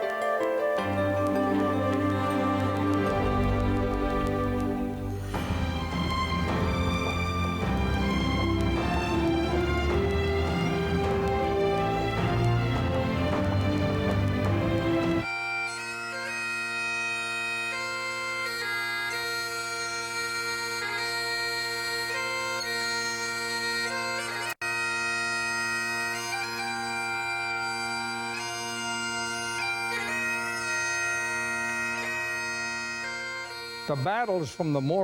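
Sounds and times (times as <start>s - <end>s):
bagpipe playing slow tune: 0.0s - 35.0s.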